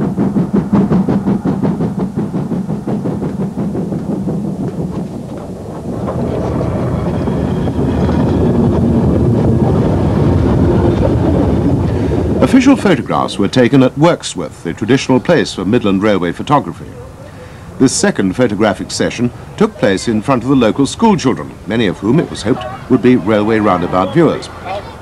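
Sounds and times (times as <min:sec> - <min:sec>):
steam train rhythmic beat: 0:00.0 - 0:25.0.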